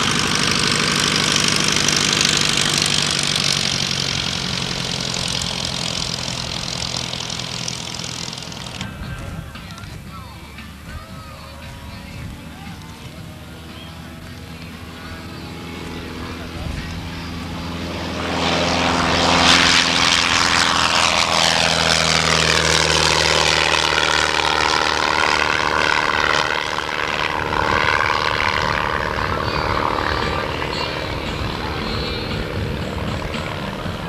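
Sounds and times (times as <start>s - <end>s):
propeller airplane engine drone: 0.0s - 34.0s.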